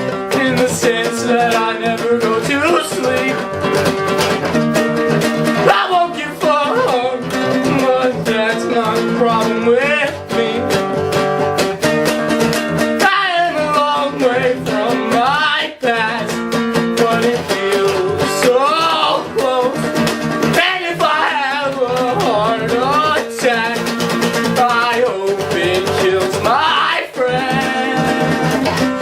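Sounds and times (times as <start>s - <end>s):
person singing: 0.0s - 3.5s, 5.5s - 11.0s, 13.0s - 29.0s
acoustic guitar strumming: 0.0s - 29.0s.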